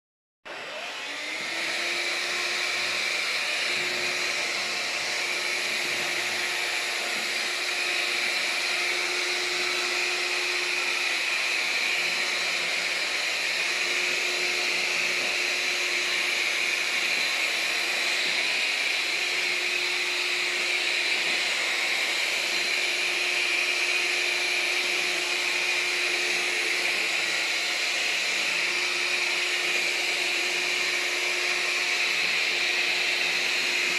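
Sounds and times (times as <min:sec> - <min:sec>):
vacuum cleaner running: 0:00.5 - 0:33.9.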